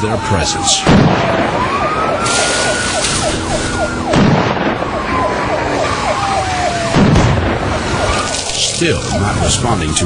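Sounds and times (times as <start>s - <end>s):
police siren wailing: 0.0s - 10.0s
road and engine noise: 0.0s - 10.0s.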